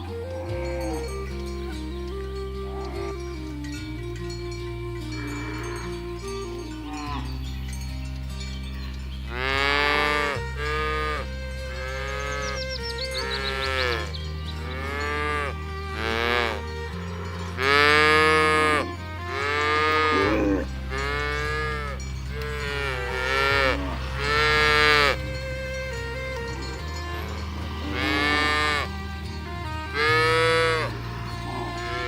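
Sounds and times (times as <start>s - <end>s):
cattle mooing: 0.0s - 7.4s, 9.3s - 32.0s
background music with bass: 0.0s - 32.0s.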